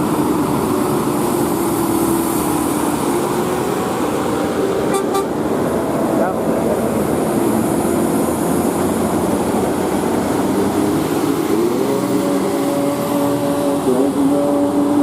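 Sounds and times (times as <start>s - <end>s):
large diesel engine under load: 0.0s - 15.0s.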